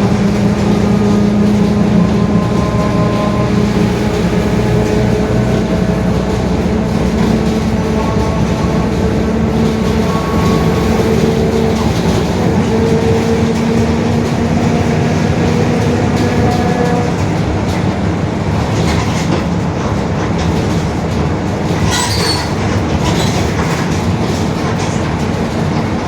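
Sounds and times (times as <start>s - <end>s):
droning differential growl: 0.0s - 21.0s
bus diesel engine running: 0.0s - 26.0s.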